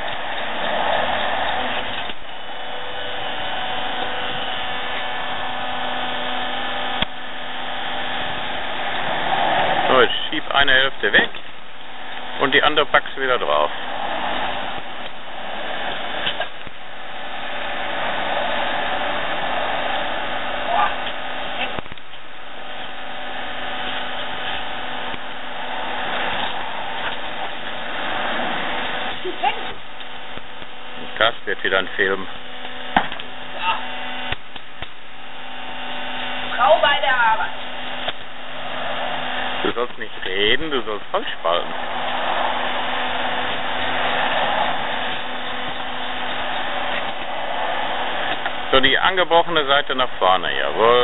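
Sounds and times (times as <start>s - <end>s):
hydraulic motor and pump humming: 0.0s - 51.0s.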